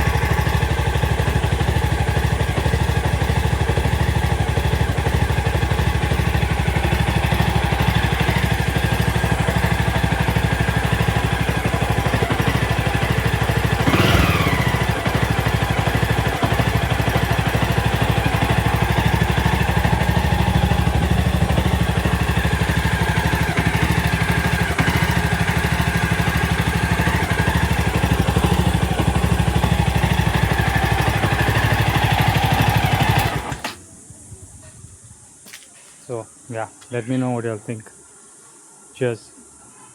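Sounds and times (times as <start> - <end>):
motorcycle engine idling: 0.0 - 35.4.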